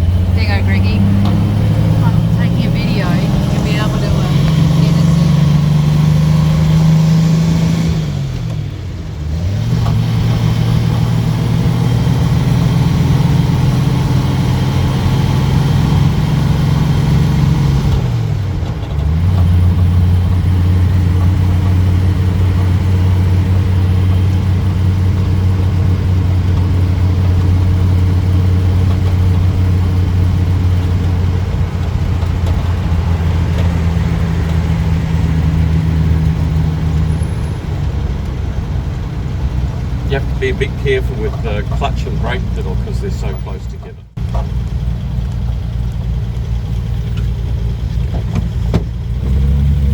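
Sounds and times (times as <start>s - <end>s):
car engine accelerating through gears: 0.0s - 49.9s.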